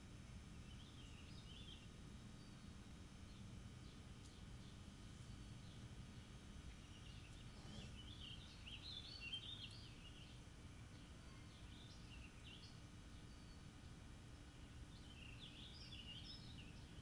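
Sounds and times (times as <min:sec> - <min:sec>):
faint bird song: 0:00.0 - 0:17.0.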